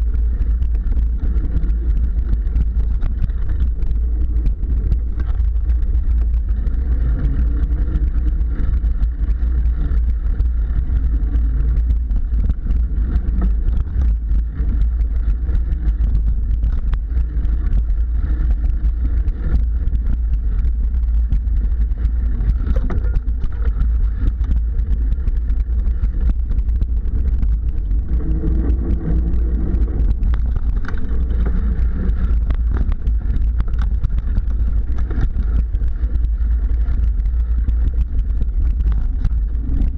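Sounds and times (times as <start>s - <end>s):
bike rattling over bumps: 0.0s - 39.9s
bike tyres rumbling on dirt: 0.0s - 39.9s
wind buffeting microphone: 0.0s - 39.9s.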